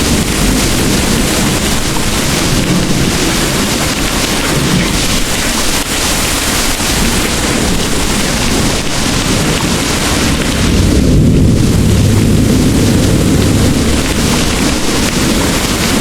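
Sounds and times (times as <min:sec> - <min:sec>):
distant thunder rolling: 0:00.0 - 0:05.8, 0:06.8 - 0:16.0
heavy rain pouring: 0:00.0 - 0:16.0.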